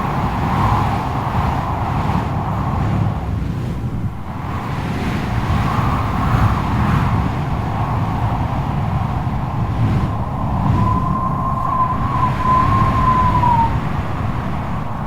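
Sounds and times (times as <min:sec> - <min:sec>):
strong wind gusting: 0:00.0 - 0:15.0.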